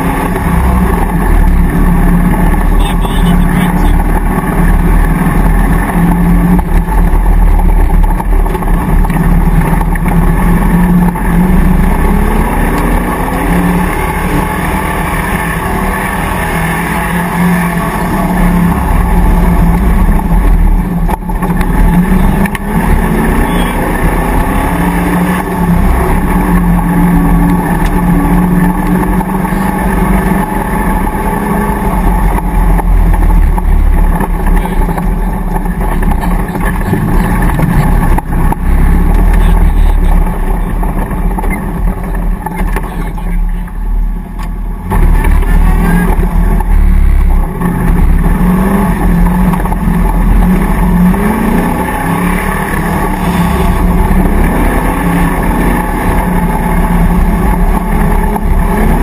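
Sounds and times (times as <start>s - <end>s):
engine revving off-road: 0.0s - 59.0s.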